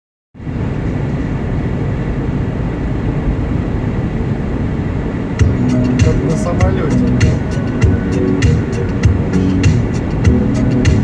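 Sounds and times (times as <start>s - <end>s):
blizzard wind blowing: 0.4s - 11.0s
wind rumble on microphone: 0.4s - 11.0s.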